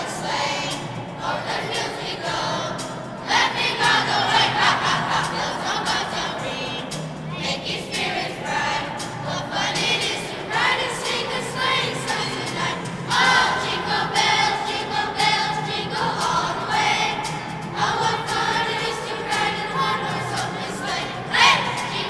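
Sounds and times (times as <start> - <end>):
children's choir singing: 0.0 - 22.0.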